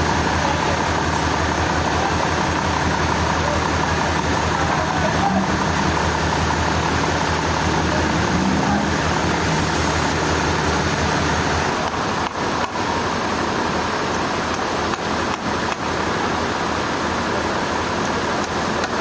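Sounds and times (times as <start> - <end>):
low engine hum: 0.0 - 19.0
sawmill machinery noise: 0.0 - 19.0.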